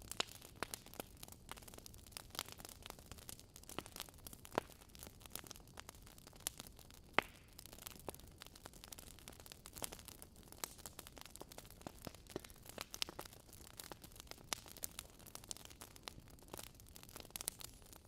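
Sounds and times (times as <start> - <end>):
fire crackling and popping: 0.0 - 18.0
soft fire hiss: 0.0 - 18.0.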